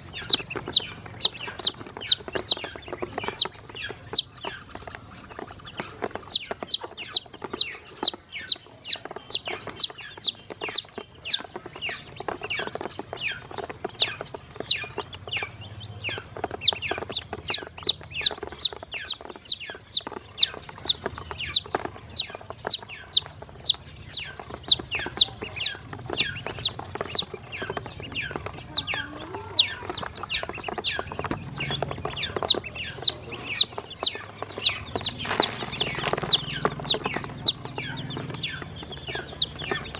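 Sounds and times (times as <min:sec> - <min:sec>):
chicks and ducklings peeping: 0:00.0 - 0:39.9.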